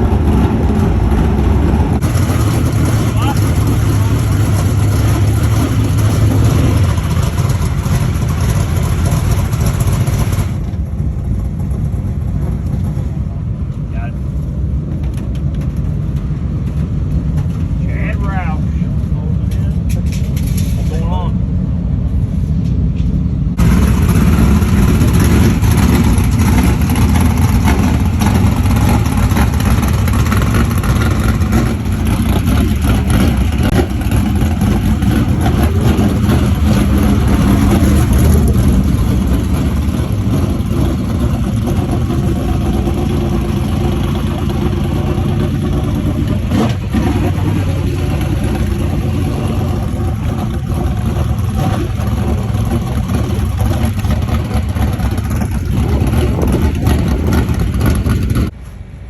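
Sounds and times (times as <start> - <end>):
race car engines running: 0.0 - 59.0.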